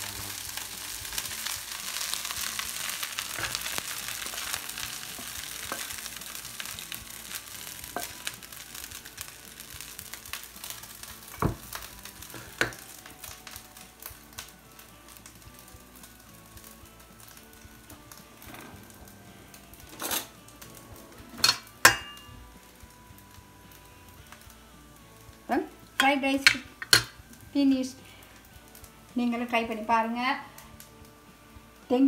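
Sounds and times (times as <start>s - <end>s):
fried rice sizzling in pan: 0.0s - 32.0s.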